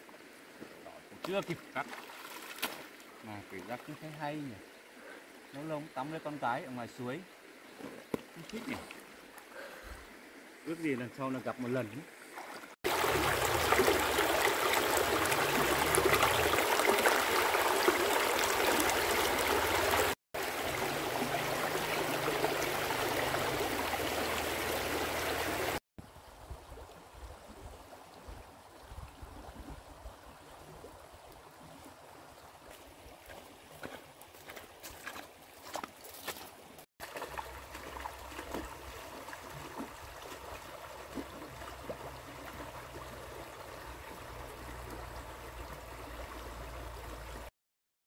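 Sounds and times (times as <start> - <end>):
stream running over rocks: 0.0 - 47.5.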